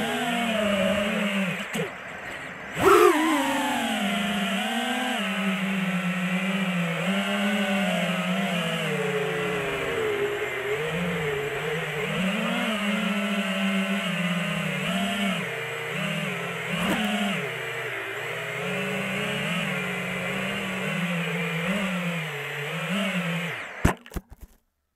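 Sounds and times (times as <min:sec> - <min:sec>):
drone motors buzzing: 0:00.0 - 0:24.2.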